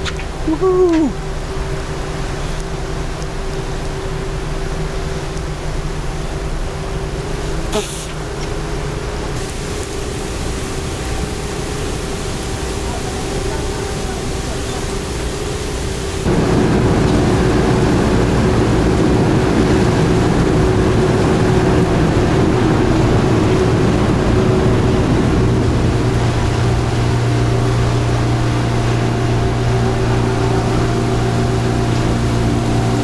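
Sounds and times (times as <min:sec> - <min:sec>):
ferry engine droning: 0:00.0 - 0:33.0
heavy rain hissing: 0:00.0 - 0:33.0.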